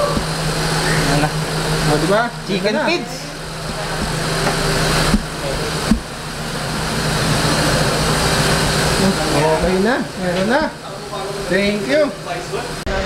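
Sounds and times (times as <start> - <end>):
mechanical running hiss and hum: 0.0 - 13.0.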